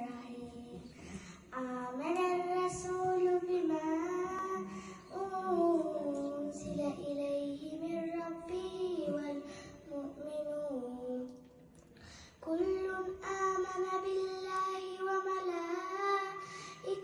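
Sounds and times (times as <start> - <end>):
girl chanting melodic recitation: 1.5 - 11.3, 12.4 - 17.0.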